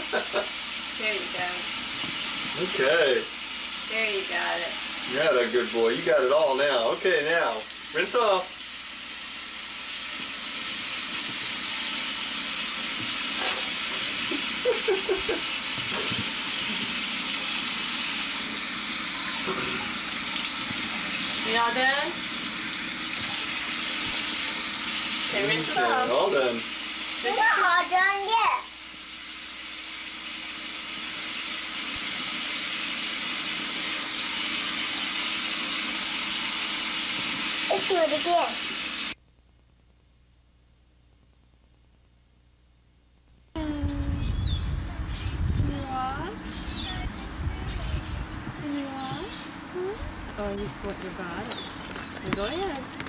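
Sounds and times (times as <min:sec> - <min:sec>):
sink tap running: 0:00.0 - 0:39.2, 0:48.7 - 0:53.0.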